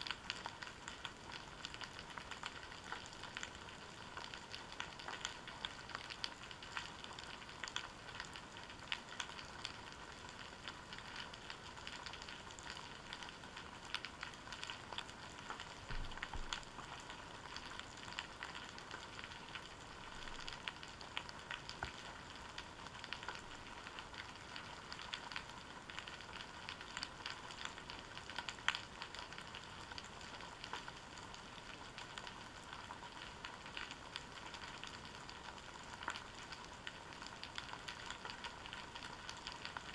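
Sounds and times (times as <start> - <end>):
underwater crackling and clicking: 0.0 - 39.9.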